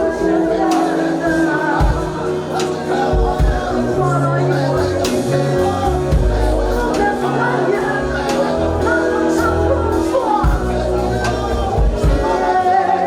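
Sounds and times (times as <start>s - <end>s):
bass and drums playing: 0.0s - 13.0s
group singing: 0.0s - 13.0s.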